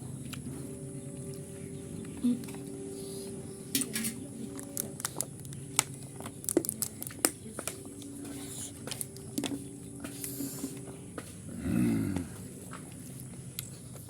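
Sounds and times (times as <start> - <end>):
faint steady hum: 0.0 - 14.0
wet chewing: 0.2 - 14.0.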